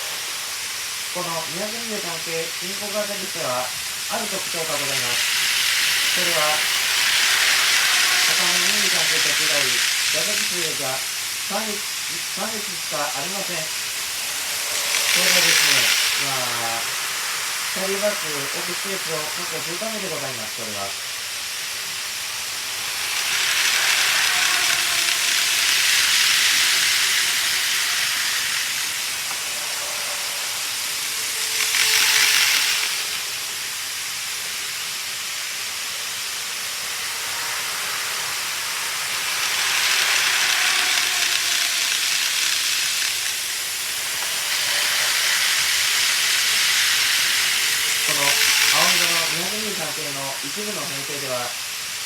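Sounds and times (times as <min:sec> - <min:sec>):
model trains rolling on track: 0:00.0 - 0:52.0.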